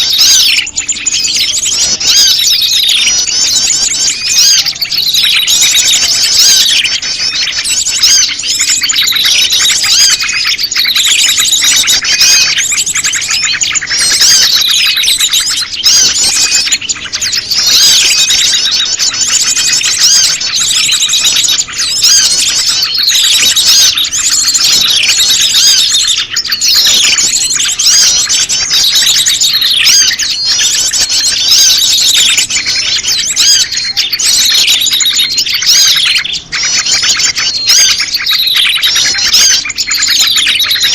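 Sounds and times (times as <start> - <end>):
flock of small birds chirping: 0.0 - 40.9.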